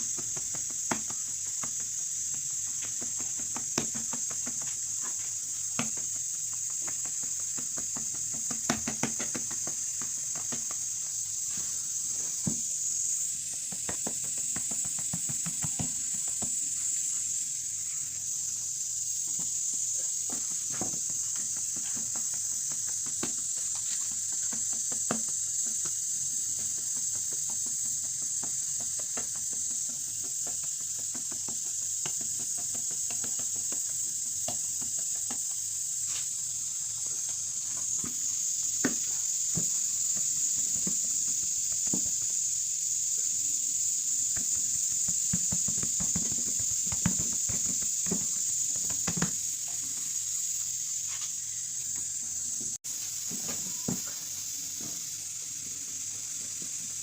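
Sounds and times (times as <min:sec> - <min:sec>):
steady high hiss: 0:00.0 - 0:57.0.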